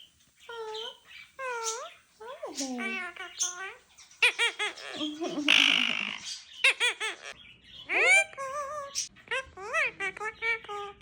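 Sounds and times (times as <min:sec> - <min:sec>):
parrot chattering: 0:00.5 - 0:11.0
parrot squawk: 0:00.5 - 0:11.0.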